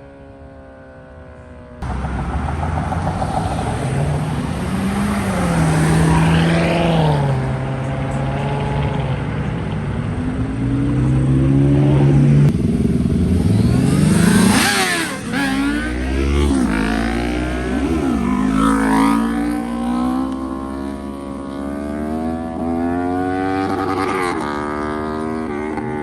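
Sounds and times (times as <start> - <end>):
car engine revving: 1.8 - 24.7.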